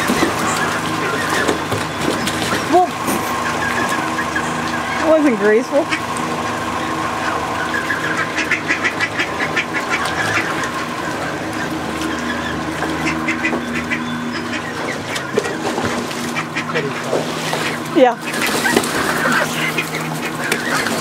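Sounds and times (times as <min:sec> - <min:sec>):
ducks and geese quacking: 0:00.0 - 0:21.0
steady low hum: 0:00.0 - 0:21.0.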